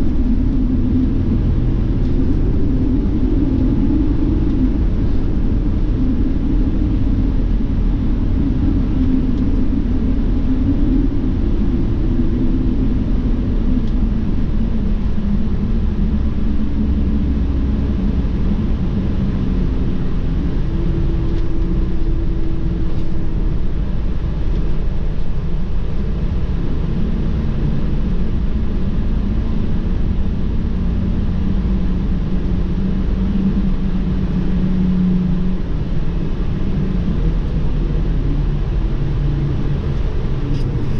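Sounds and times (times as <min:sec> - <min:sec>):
bus engine drone: 0:00.0 - 0:40.9.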